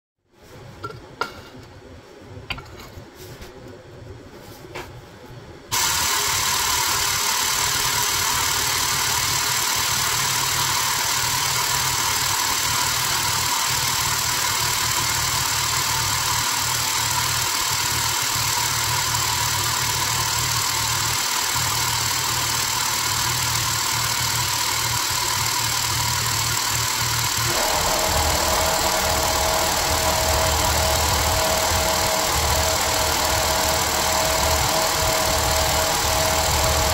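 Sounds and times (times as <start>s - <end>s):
hydraulic pump hissing and humming: 5.7s - 36.9s.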